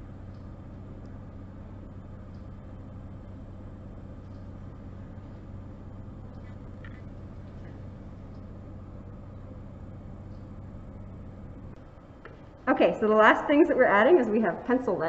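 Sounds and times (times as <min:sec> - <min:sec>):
low hum with faint hiss: 0:00.0 - 0:15.0.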